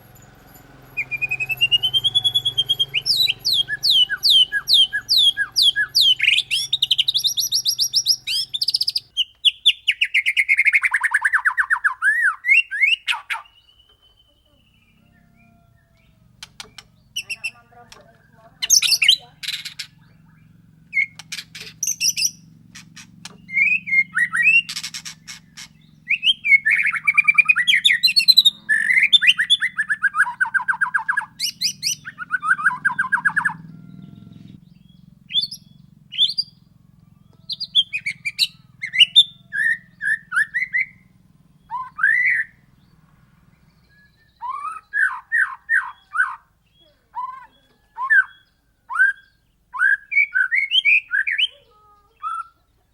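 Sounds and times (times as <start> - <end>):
songbird singing varied song: 0.0 - 52.9.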